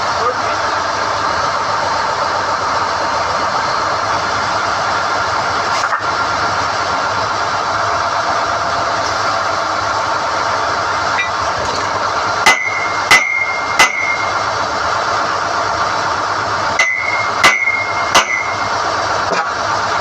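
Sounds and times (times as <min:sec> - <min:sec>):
drilling rig running: 0:00.0 - 0:20.0.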